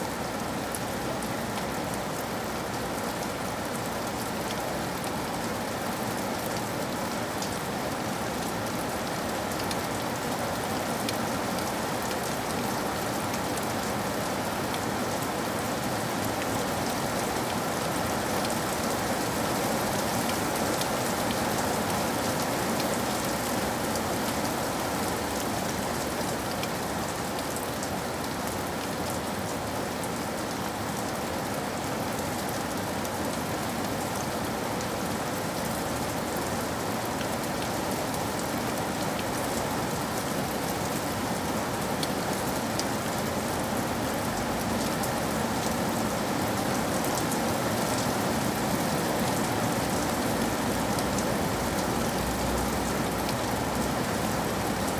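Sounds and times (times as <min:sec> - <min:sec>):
heavy rain on a window: 0:00.0 - 0:54.9.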